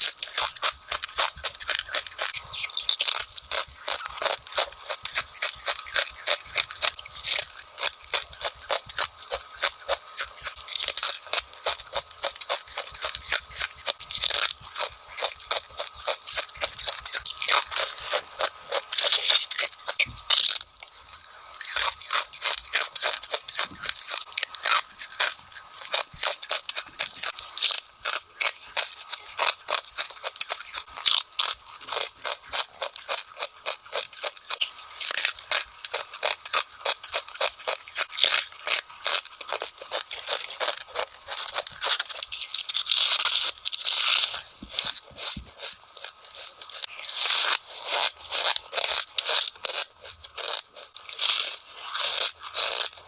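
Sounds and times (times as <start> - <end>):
frost being bitten and chewed: 0.0 - 53.0.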